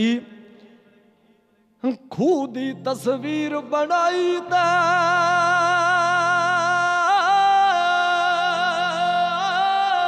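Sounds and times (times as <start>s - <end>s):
man singing with vibrato: 0.0s - 1.0s, 1.8s - 10.0s.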